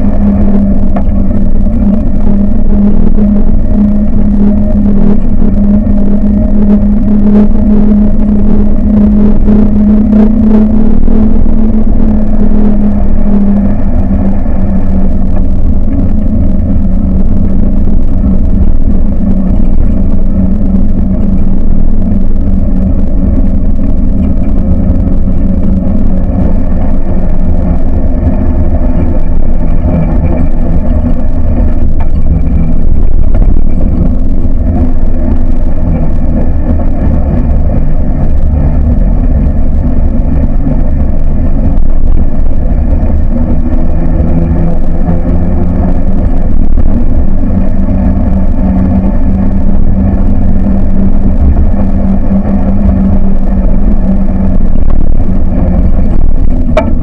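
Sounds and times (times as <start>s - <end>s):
buggy engine running: 0.0s - 57.0s.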